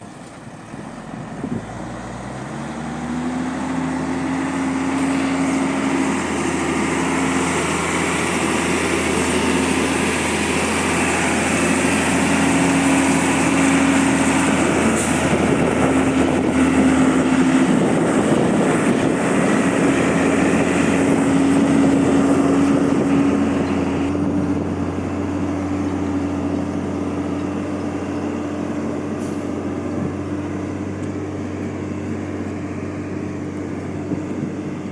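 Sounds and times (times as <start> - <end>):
diesel truck engine droning: 0.0 - 34.9.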